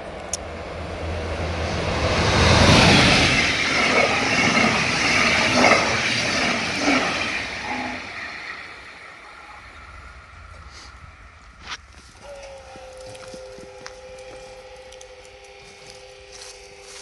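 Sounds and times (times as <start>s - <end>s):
train rushing past: 0.0s - 17.0s.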